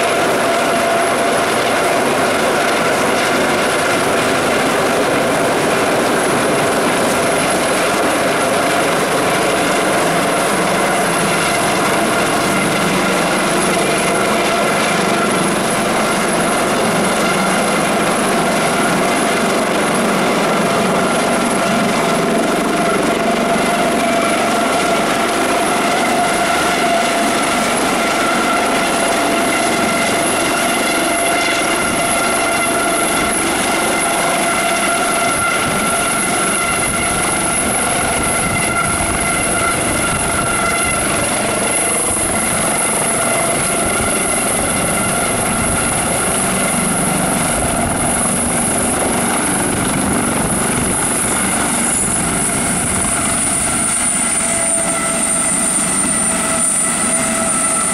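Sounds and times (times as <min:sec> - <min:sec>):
helicopter rotor noise: 0:00.0 - 0:57.9
high turbine whine: 0:00.0 - 0:57.9.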